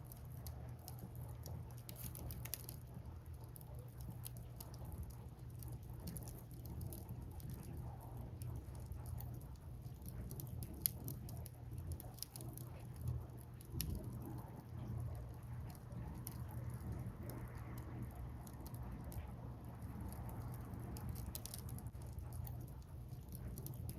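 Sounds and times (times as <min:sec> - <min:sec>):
fire low rumble: 0:00.0 - 0:23.9
logs crackling and popping: 0:00.0 - 0:23.9.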